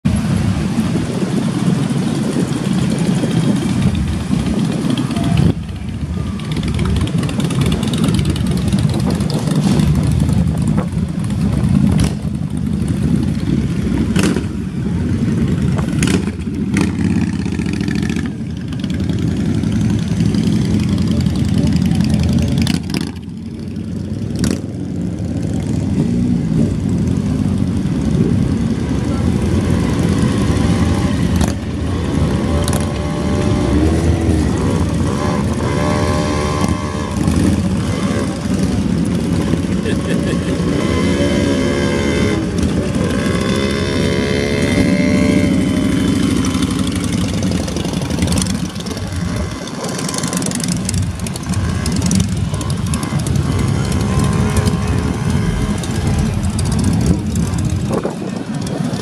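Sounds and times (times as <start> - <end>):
motorcycles revving past: 0.1 - 59.0.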